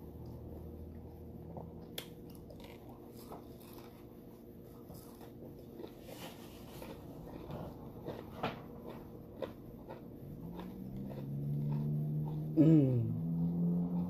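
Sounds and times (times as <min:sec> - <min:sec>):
faint steady hum: 0:00.0 - 0:14.0
person chewing: 0:00.2 - 0:14.0.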